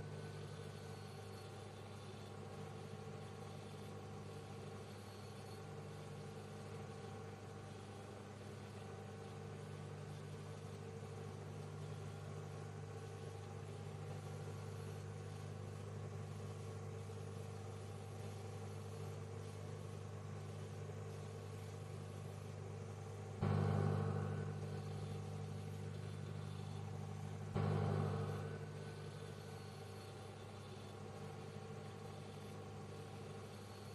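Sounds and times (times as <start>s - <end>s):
microwave oven humming: 0.0s - 33.9s.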